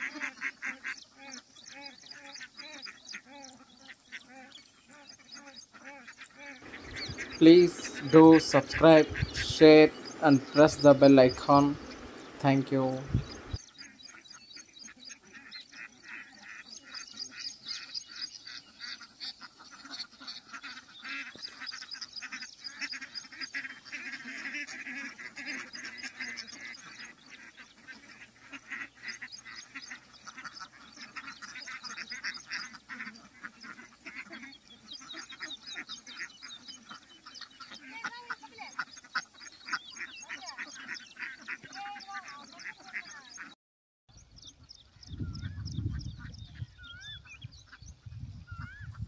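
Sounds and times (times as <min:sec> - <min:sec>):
ducks quacking: 0:00.0 - 0:43.6, 0:45.3 - 0:49.0.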